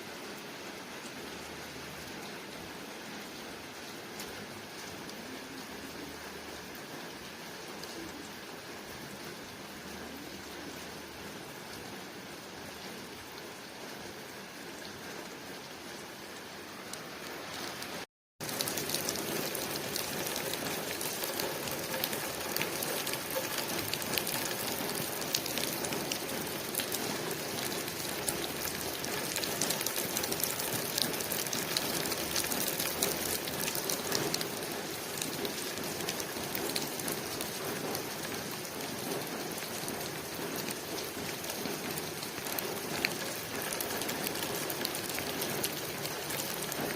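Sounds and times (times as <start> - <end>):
rain on a window pane: 0.0 - 46.9.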